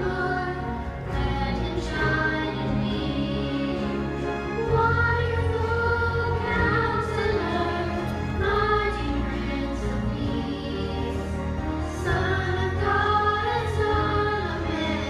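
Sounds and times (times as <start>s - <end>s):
children singing: 0.0s - 15.0s
church choir singing: 0.0s - 15.0s
strings and winds orchestra: 0.0s - 15.0s.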